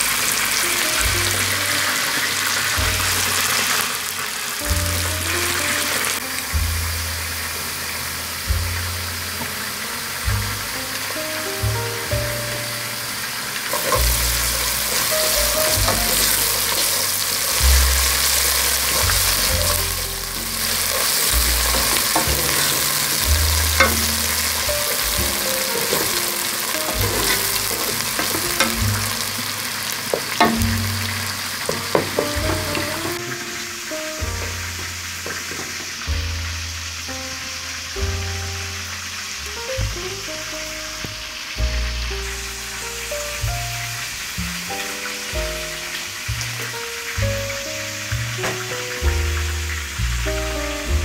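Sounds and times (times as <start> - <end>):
onions sizzling in hot oil: 0.0 - 51.0.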